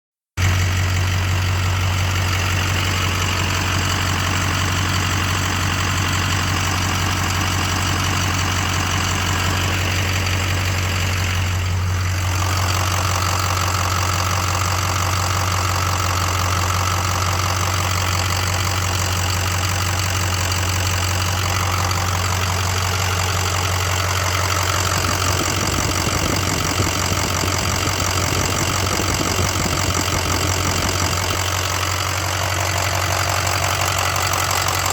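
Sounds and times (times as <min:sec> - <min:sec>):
diesel engine idling: 0:00.4 - 0:34.9
engine ticking knock: 0:00.4 - 0:34.9.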